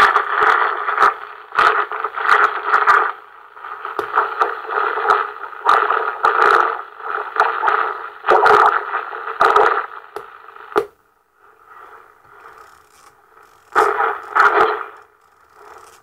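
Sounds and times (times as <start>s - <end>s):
radio crackling noise bursts: 0.0s - 16.0s
faint hiss: 0.2s - 16.0s.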